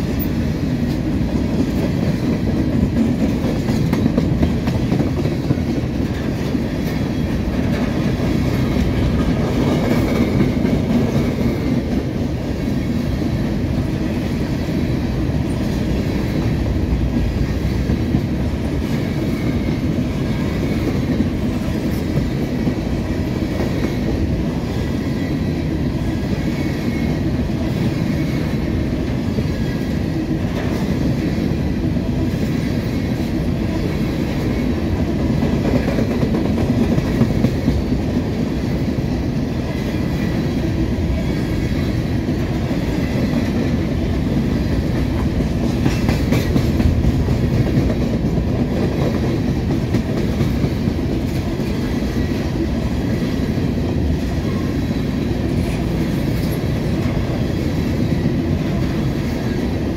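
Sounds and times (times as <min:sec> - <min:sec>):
freight train rumble: 0:00.0 - 0:59.9.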